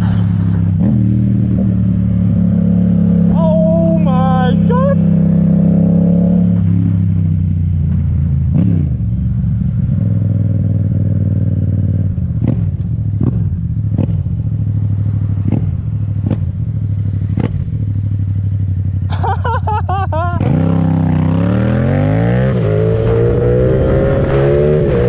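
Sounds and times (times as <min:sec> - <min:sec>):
motorcycle engine running: 0:00.0 - 0:24.1.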